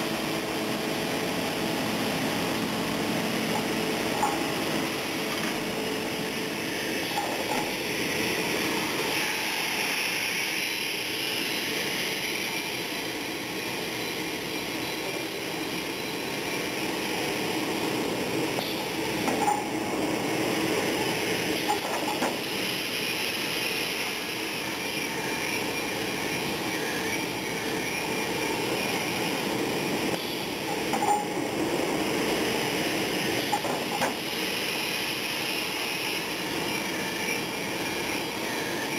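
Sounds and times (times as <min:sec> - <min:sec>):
woodworking machine running: 0:00.0 - 0:38.9.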